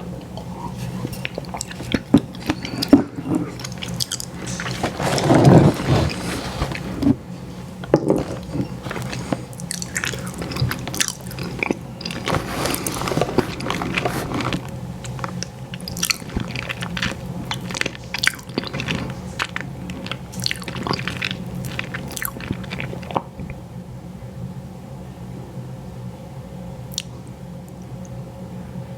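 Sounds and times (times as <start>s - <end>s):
biting ice cream sandwich: 0.2s - 23.5s
wet chewing with smacks: 0.2s - 23.6s, 26.9s - 27.2s.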